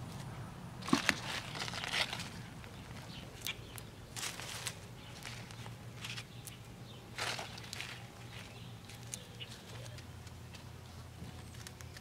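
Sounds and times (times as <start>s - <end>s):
hands scraping soil and leaves: 0.1s - 10.7s.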